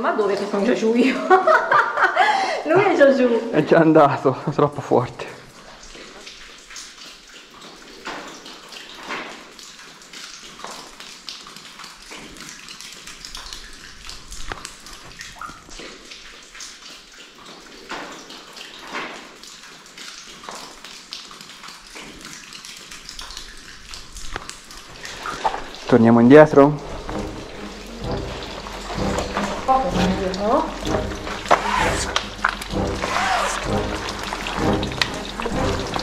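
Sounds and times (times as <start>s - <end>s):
water trickling in a cave: 0.0s - 36.0s.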